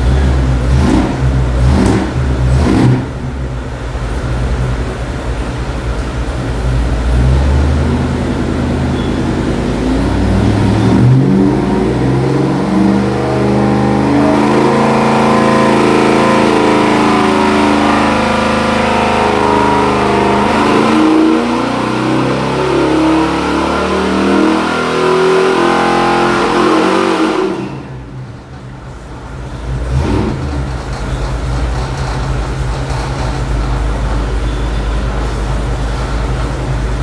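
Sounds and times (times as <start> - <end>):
engine revving under load: 0.0 - 5.5, 6.1 - 37.0.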